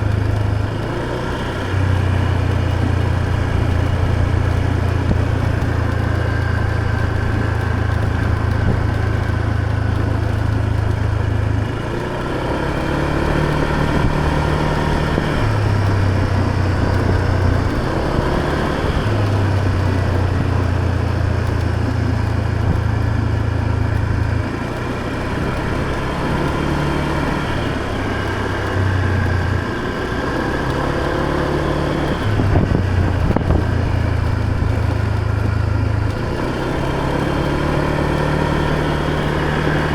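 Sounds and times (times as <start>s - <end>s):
motor scooter engine: 0.0s - 39.9s.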